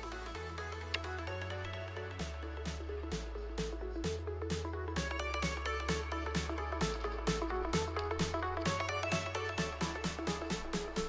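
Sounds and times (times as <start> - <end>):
steady bass line: 0.0 - 11.0.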